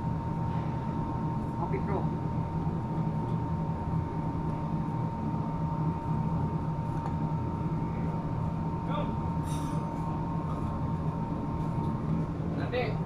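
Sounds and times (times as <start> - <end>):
ventilation blower humming: 0.0 - 13.0.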